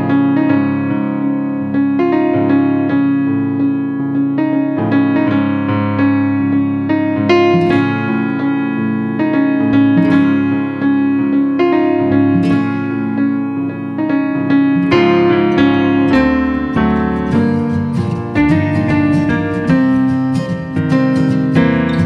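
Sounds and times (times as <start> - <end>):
keyboard piano music: 0.0 - 22.0.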